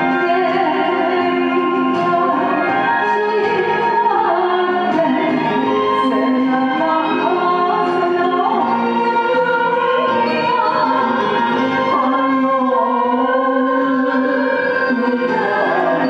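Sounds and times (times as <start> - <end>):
instrumental accompaniment: 0.0 - 16.0
man and woman singing duet: 0.0 - 16.0.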